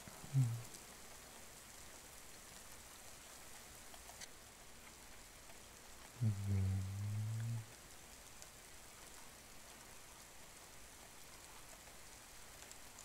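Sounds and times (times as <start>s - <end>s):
faint steady rain: 0.0s - 13.0s.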